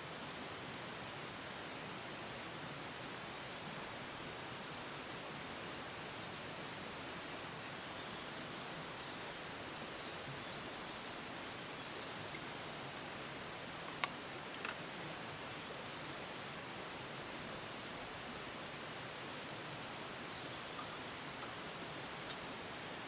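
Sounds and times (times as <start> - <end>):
steady forest hiss: 0.0 - 23.0.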